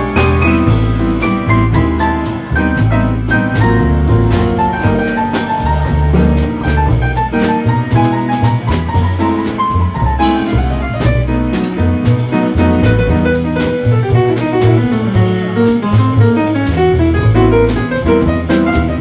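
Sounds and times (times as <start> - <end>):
bass notes: 0.0 - 19.0
drum kit: 0.0 - 19.0
piano: 0.0 - 19.0.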